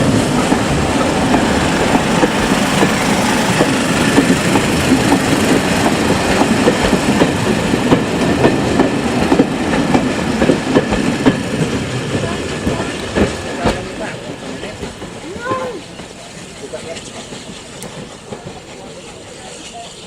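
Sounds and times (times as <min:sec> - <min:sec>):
train rumble: 0:00.0 - 0:20.0
train wheels clicking over rail joints: 0:00.0 - 0:20.0.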